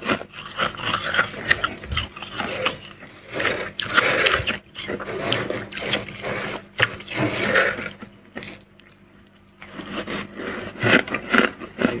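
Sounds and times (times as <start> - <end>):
freezer frost crunching: 0.0 - 12.0.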